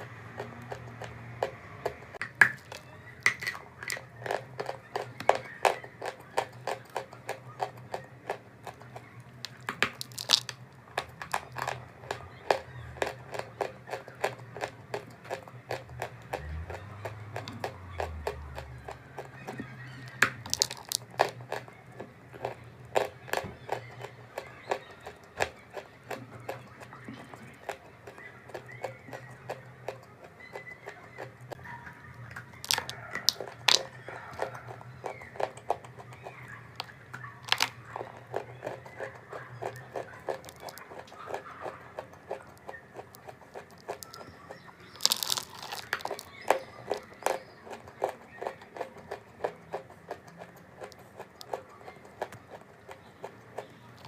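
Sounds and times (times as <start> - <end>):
chalk crunching while chewed: 0.0 - 24.0, 31.1 - 54.0.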